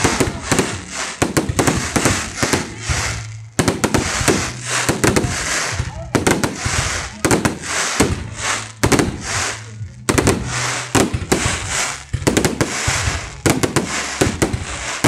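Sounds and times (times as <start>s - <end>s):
crackling hiss: 0.0s - 15.0s
fireworks bangs: 0.0s - 15.0s.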